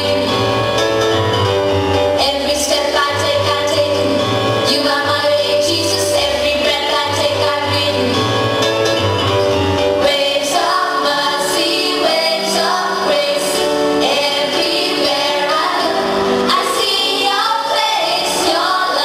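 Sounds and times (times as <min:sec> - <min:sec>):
children's choir singing a hymn: 0:00.0 - 0:00.7, 0:02.2 - 0:08.6, 0:10.0 - 0:19.0
instrumental accompaniment: 0:00.0 - 0:19.0.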